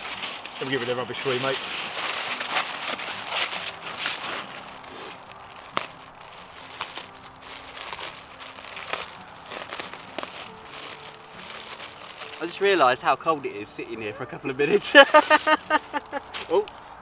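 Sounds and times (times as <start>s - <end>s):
foil and plastic packaging crinkling: 0.0s - 17.0s.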